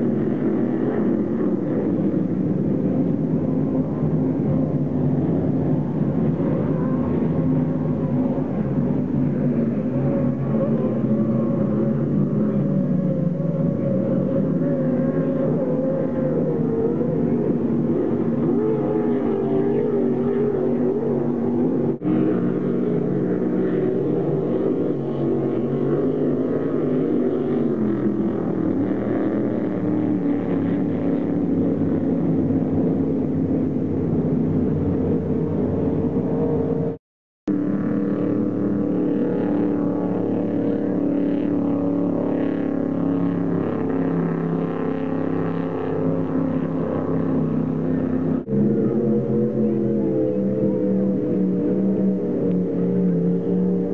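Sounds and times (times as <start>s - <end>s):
powerboat engines passing: 0.0s - 53.9s.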